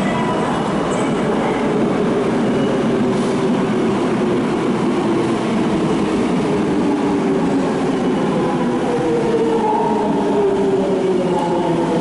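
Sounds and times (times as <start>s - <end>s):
echoing station ambience: 0.0s - 12.0s
electric train humming at platform: 0.0s - 12.0s.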